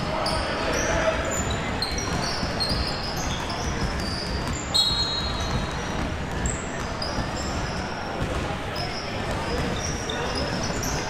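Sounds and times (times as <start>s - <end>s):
indoor hall noise: 0.0s - 11.0s
sneakers squeaking on court: 0.0s - 11.0s.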